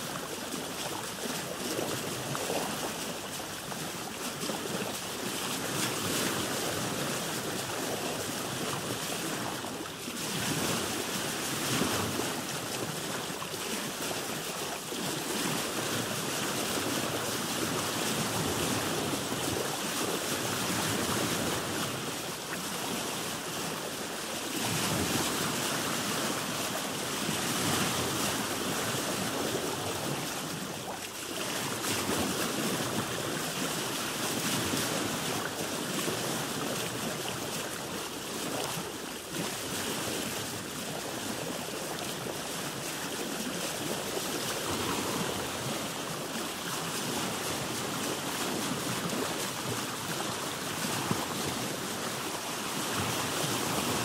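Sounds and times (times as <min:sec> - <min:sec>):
sea waves washing around boat: 0:00.0 - 0:54.0.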